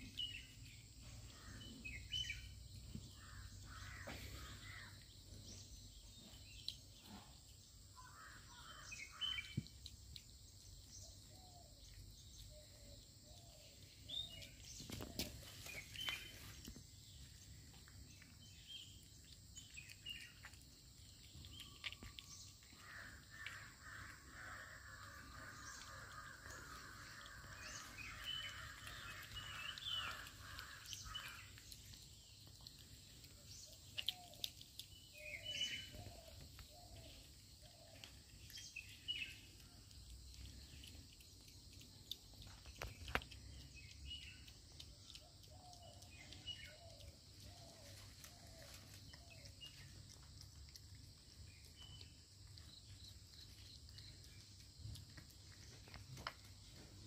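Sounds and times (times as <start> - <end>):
birds chirping: 0.0 - 9.8, 10.5 - 50.4.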